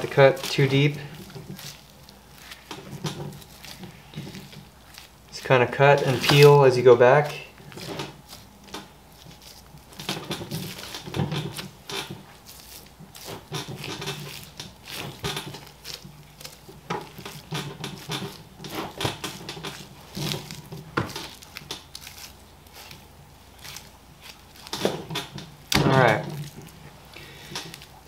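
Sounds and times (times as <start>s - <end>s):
knife cutting meat: 0.0s - 6.6s, 7.2s - 28.0s.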